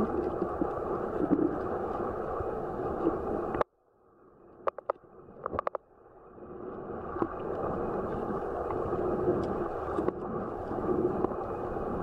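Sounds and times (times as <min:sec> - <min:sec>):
muffled underwater water rush: 0:00.0 - 0:12.0.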